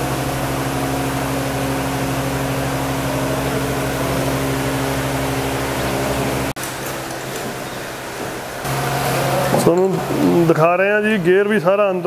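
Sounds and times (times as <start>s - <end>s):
machine humming with slight pulse: 0.0s - 10.6s.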